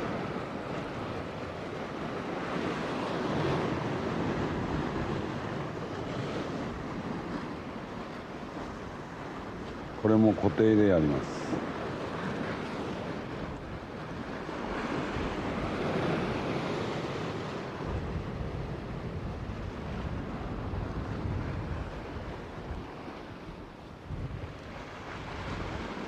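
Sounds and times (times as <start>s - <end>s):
sea waves on rocky shore: 0.0s - 26.0s
wind buffeting microphone: 0.0s - 26.0s.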